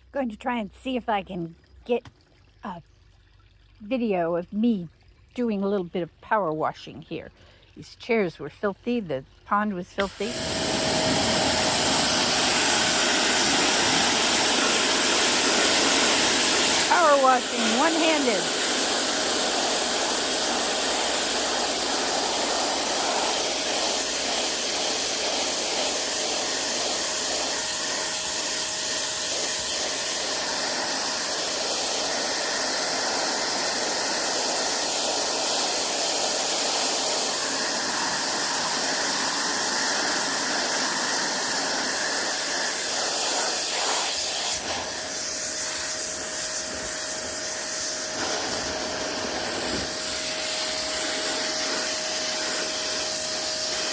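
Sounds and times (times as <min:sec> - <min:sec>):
pressure washer spraying: 0:10.0 - 0:53.9.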